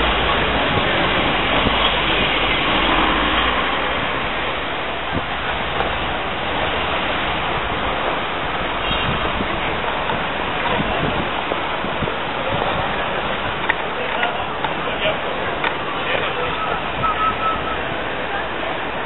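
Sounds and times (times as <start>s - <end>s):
bus moving: 0.0s - 19.0s
passing street traffic: 0.0s - 19.0s.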